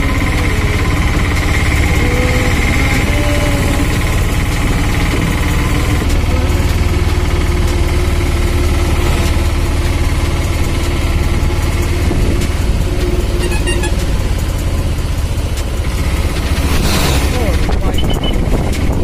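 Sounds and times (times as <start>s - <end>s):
engine drone and road noise: 0.0s - 19.0s.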